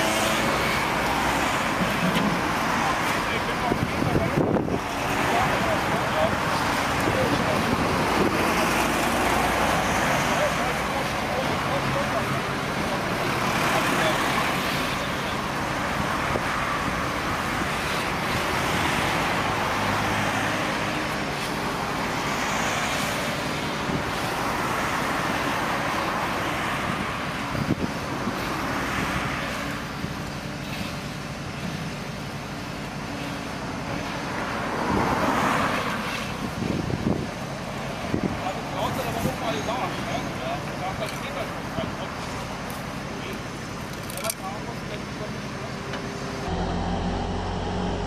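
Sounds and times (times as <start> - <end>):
heavy engines humming: 0.0 - 48.0.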